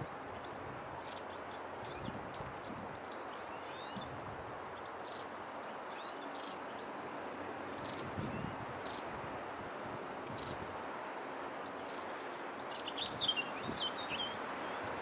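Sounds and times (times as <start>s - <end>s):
low background hiss: 0.0s - 15.0s
songbirds chirping: 0.0s - 15.0s.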